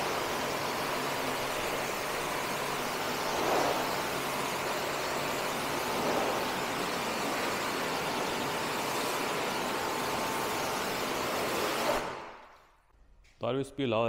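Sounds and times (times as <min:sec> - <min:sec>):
pressure washer spraying water: 0:00.0 - 0:12.5.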